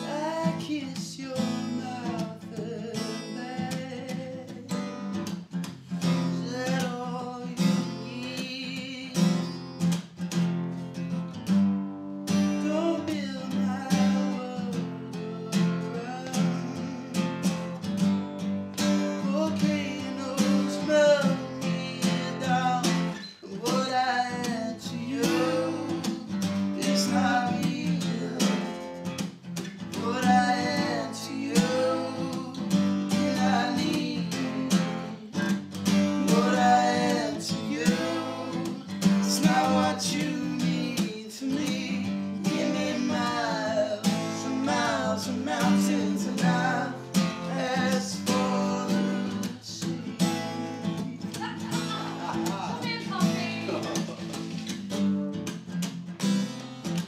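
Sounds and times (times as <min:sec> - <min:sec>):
man singing: 0:00.0 - 0:05.1, 0:06.1 - 0:09.7, 0:12.3 - 0:17.8, 0:18.8 - 0:29.2, 0:29.9 - 0:54.5
strummed acoustic guitar: 0:00.0 - 0:57.0.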